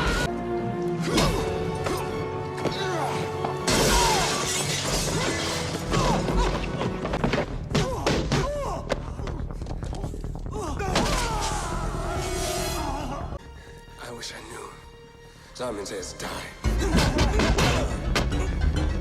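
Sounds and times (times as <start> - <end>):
action film music: 0.0 - 19.0.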